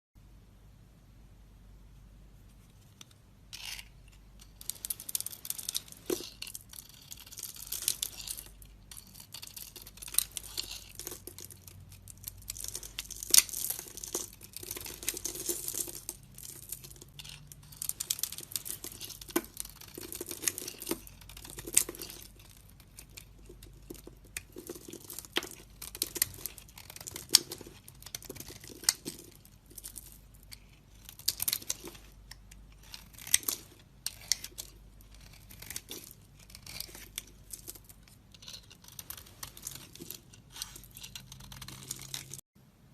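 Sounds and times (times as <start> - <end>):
blade scraping soap: 3.6 - 29.1, 32.7 - 42.4.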